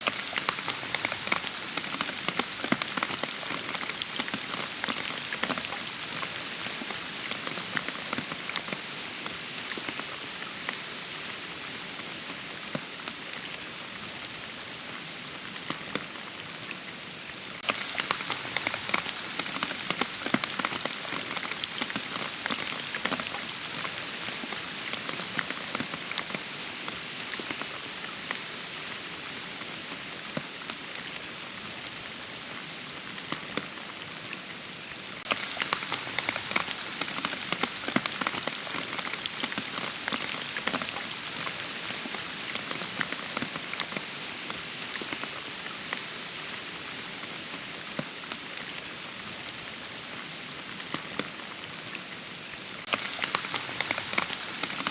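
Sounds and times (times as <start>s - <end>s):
raindrops striking close by: 0.0s - 54.9s
steady rain falling: 0.0s - 54.9s.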